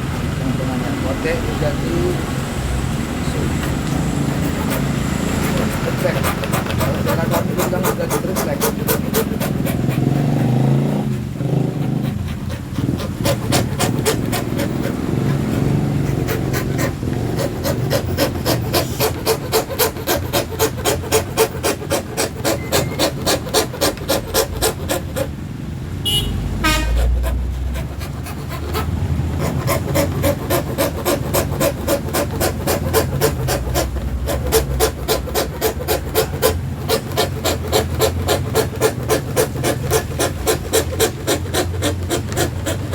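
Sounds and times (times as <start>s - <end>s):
hand saw cutting acrylic sheet: 0.0s - 25.4s, 26.6s - 42.9s.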